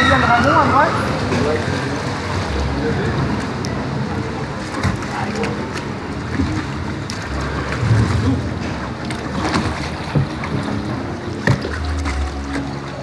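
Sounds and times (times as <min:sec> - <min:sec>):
water rushing around ride boat: 0:00.0 - 0:13.0.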